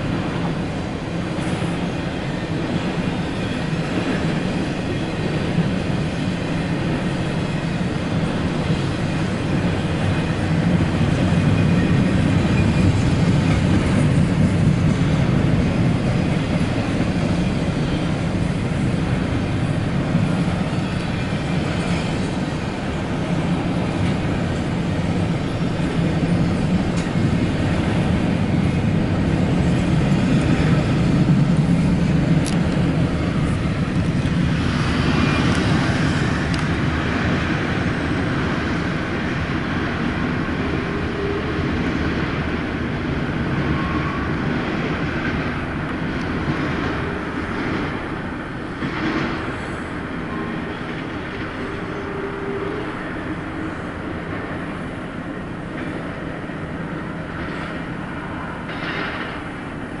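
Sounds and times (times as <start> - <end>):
freight train wheels rumbling on rails: 0.0 - 60.0.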